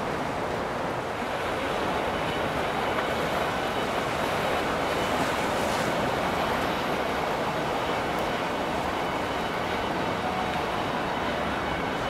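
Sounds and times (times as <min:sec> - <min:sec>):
boat engine and water wash: 0:00.0 - 0:12.0.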